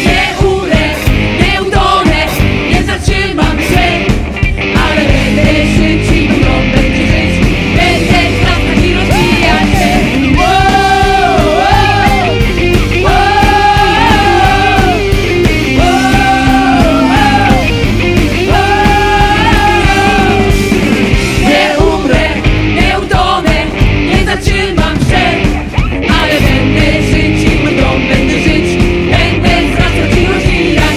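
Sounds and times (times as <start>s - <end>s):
worship band playing rock song: 0.0s - 30.9s
person singing: 4.7s - 25.5s, 26.1s - 30.9s.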